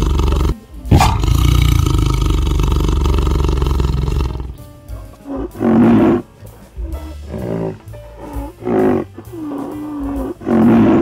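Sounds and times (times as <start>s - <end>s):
background music: 0.0s - 11.0s
tiger cub growling: 0.0s - 11.0s.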